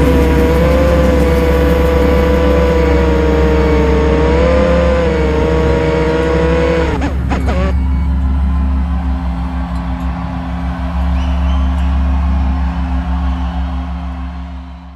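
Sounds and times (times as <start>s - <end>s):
quadcopter motors whining: 0.0s - 13.6s.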